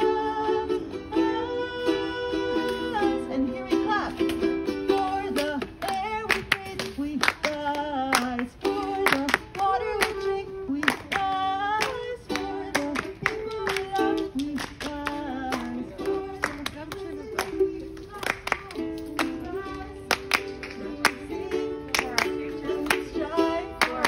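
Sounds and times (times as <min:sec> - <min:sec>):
person singing: 0:00.0 - 0:24.0
strummed ukulele: 0:00.0 - 0:24.0.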